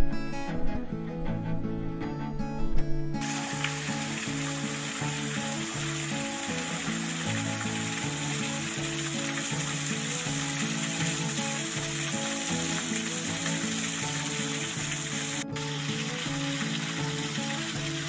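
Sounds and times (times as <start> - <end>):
music of sustained low notes: 0.0 - 18.0
waterfall rushing: 3.2 - 18.0.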